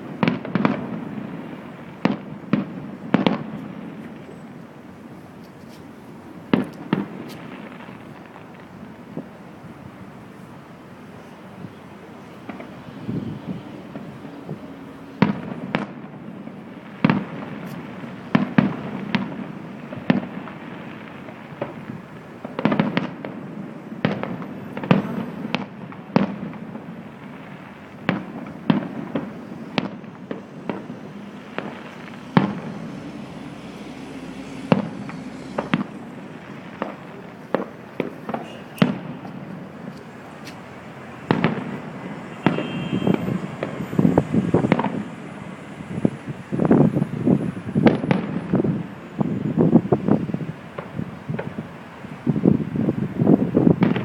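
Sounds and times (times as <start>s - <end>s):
fireworks bursting with echo: 0.0s - 54.0s.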